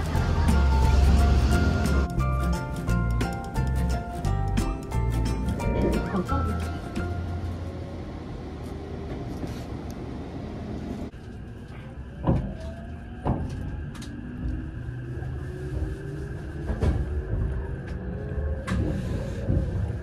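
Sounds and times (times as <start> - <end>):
moving train rumble: 0.0 - 20.0
railway platform noise: 0.0 - 20.0.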